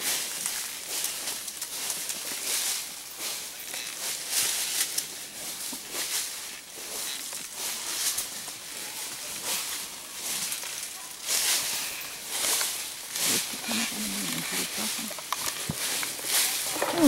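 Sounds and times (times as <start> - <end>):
leaves and brush rustling: 0.0 - 17.0.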